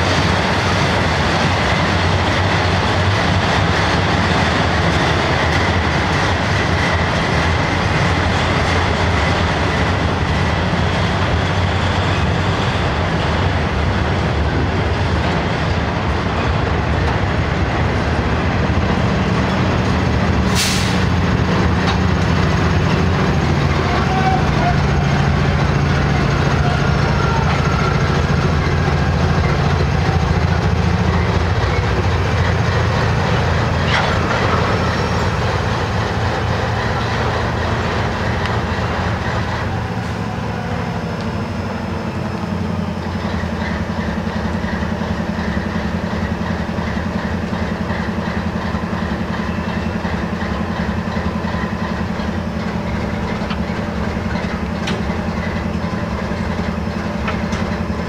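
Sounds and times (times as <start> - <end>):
diesel engine drone: 0.0 - 58.0
rail noise: 0.0 - 58.0.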